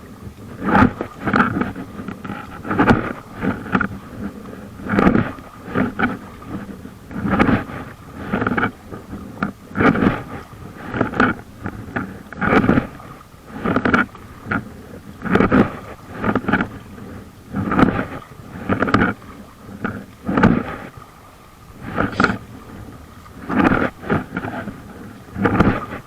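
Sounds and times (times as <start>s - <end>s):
paddle strokes splashing water: 0.0s - 26.0s.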